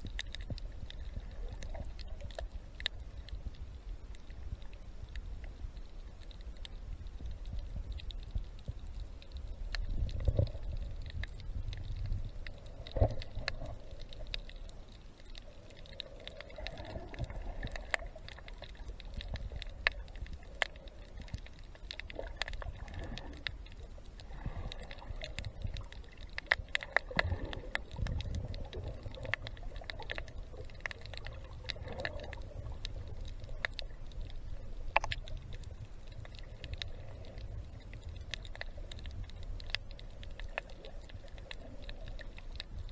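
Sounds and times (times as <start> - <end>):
sharp underwater clicks and crackles: 0.0 - 42.9
underwater rumble of moving water: 0.0 - 42.9.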